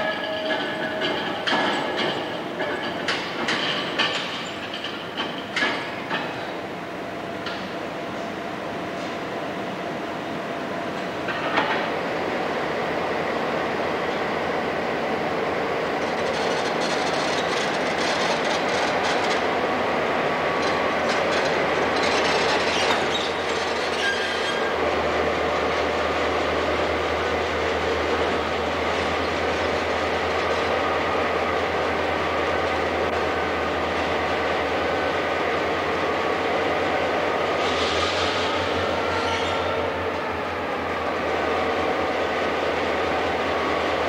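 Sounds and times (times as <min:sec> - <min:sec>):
diesel locomotive engine: 0:00.0 - 0:44.0.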